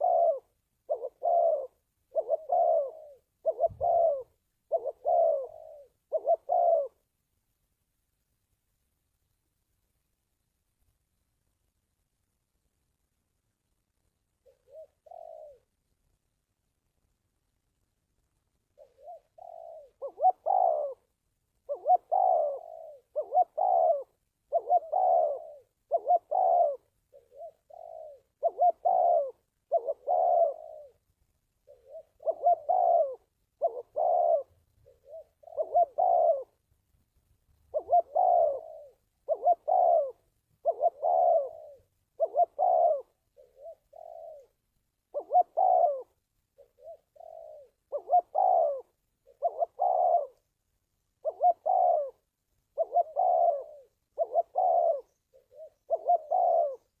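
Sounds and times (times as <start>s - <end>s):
dove cooing: 0.0s - 7.1s, 14.3s - 16.2s, 18.6s - 57.0s.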